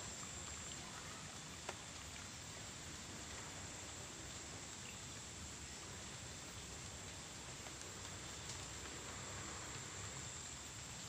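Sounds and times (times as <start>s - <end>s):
low steady hiss: 0.0s - 11.0s.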